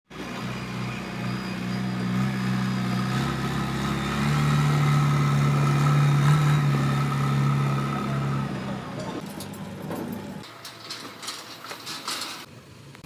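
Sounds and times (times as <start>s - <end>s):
diesel engine running: 0.1s - 13.0s.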